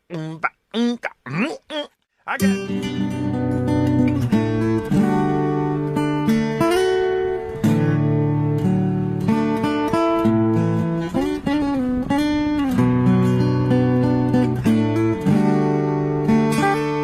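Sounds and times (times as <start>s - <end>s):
solo guitar melody: 2.4s - 17.0s.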